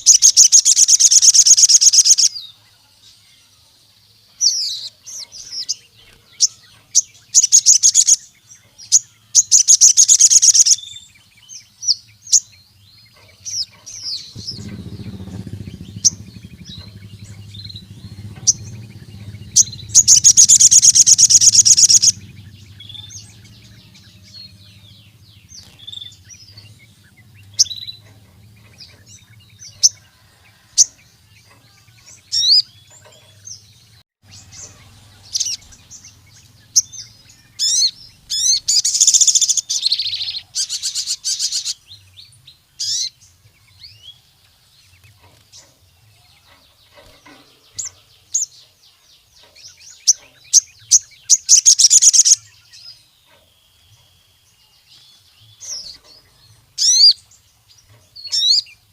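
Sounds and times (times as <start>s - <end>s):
small bird chirping and trilling: 0.0s - 58.9s.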